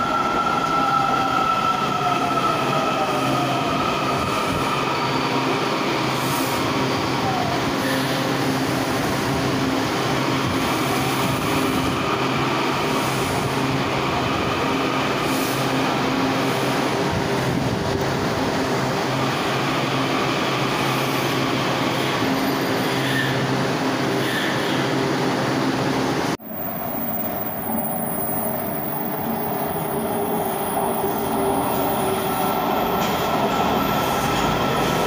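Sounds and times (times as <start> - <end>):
train wheel and rail noise: 0.0 - 35.0.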